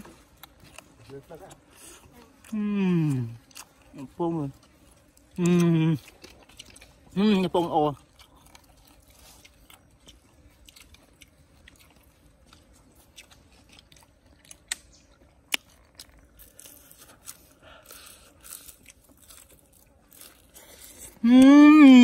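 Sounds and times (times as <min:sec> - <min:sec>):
chewing crackles and clicks: 0:00.0 - 0:21.5.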